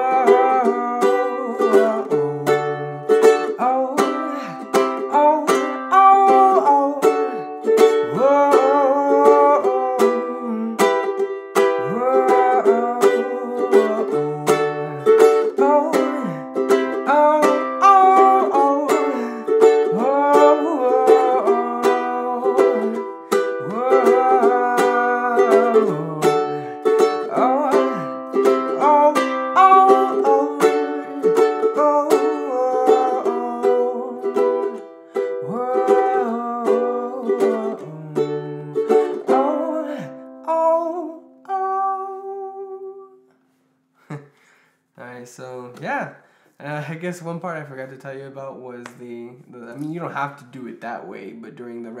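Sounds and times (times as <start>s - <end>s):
ukulele strumming chords: 0.0s - 43.2s.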